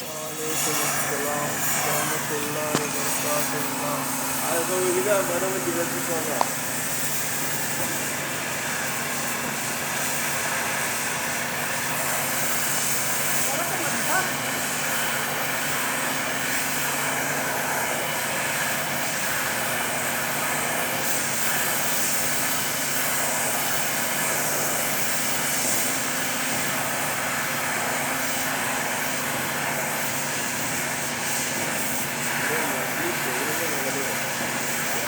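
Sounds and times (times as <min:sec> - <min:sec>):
machine whirring with low hum: 0:00.0 - 0:35.0.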